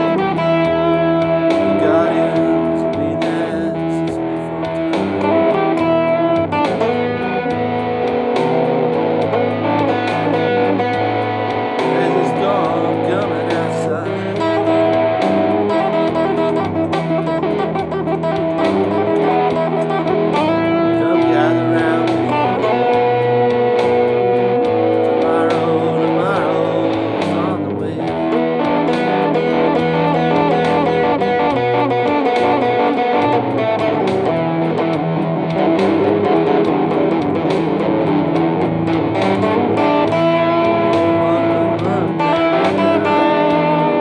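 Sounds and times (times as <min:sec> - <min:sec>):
electric guitar playing blues: 0:00.0 - 0:44.0.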